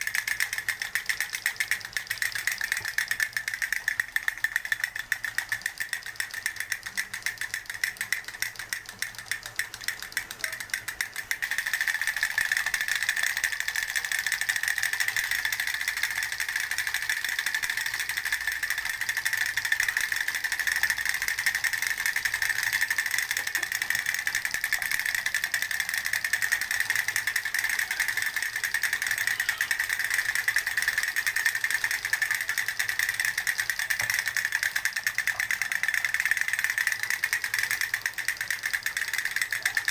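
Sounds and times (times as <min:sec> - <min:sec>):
rapid mechanical clicking rattle: 0:00.0 - 0:39.9.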